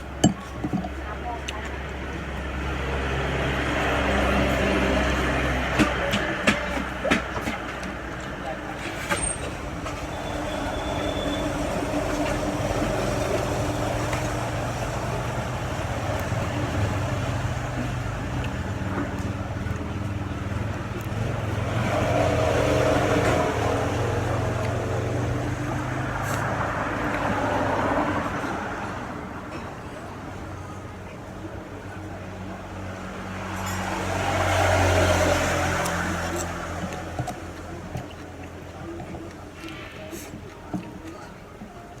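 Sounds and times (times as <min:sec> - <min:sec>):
traffic noise: 0:00.0 - 0:42.0
vehicle engine humming: 0:00.0 - 0:42.0.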